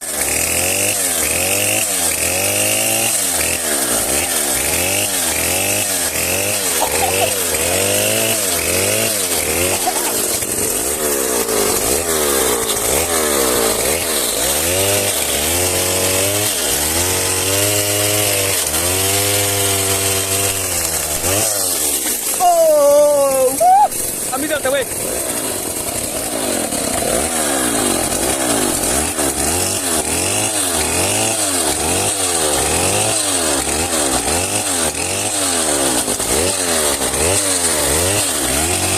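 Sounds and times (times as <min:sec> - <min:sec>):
chainsaw running under load: 0:00.0 - 0:38.9.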